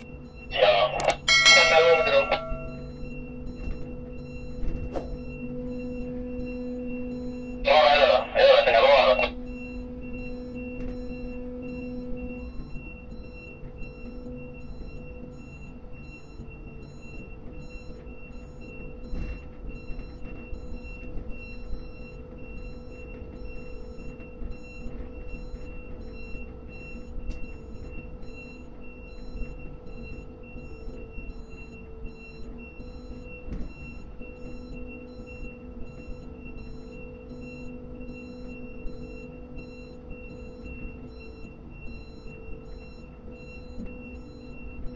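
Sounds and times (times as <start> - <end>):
crane electric hum and whine: 0.0 - 44.9.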